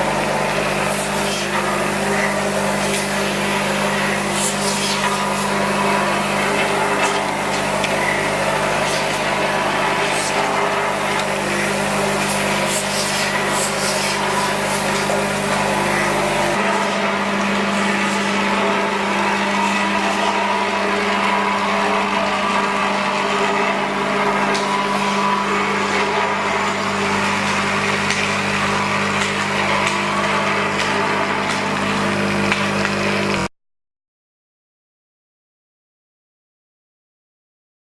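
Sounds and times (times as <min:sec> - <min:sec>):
electromagnetic hum: 0:00.0 - 0:33.5.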